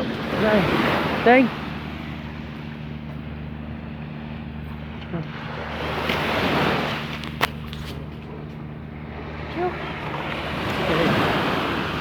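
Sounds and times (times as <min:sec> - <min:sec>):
sea waves washing in: 0:00.0 - 0:12.0
steady low hum: 0:00.0 - 0:12.0.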